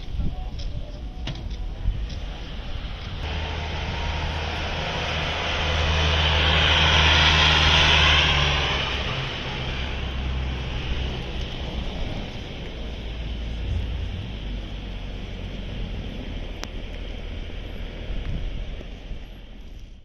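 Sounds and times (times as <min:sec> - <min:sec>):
large vehicle driving past: 0:02.0 - 0:19.5.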